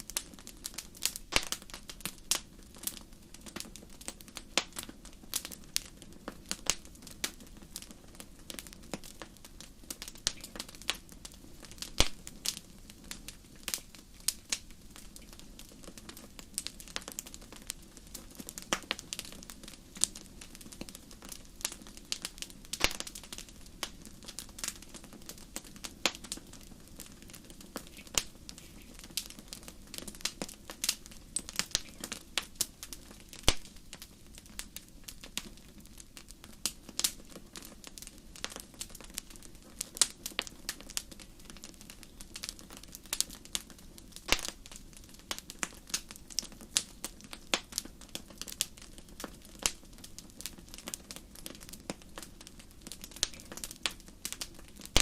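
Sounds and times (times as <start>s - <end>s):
fire pops and snaps: 0.0s - 55.0s.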